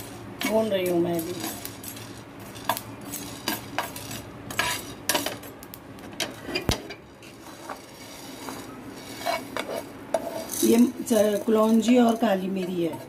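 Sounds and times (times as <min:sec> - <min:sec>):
spoon scraping on griddle: 0:00.0 - 0:05.6, 0:06.2 - 0:13.0.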